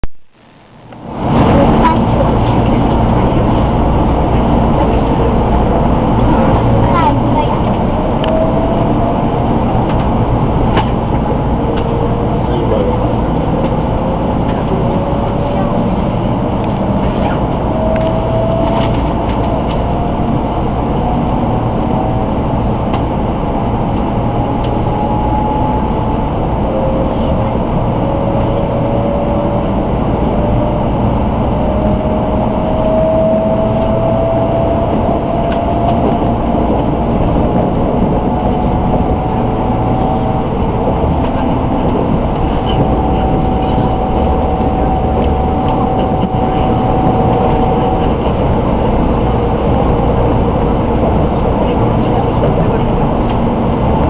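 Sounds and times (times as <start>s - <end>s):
train running gear rumble: 0.8s - 54.0s.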